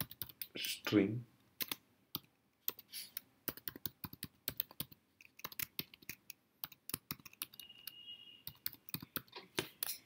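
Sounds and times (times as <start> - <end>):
typing on computer keyboard: 0.0 - 0.6, 1.6 - 10.0.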